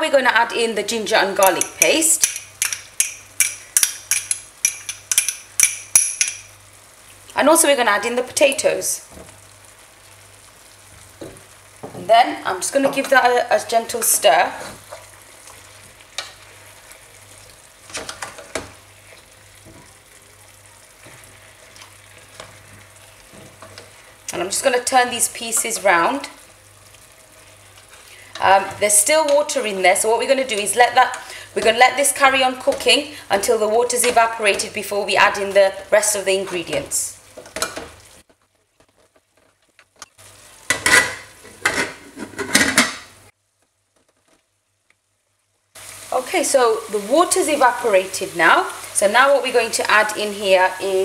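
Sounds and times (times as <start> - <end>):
food sizzling in oil: 1.1 - 38.3, 39.4 - 43.4, 45.1 - 51.0.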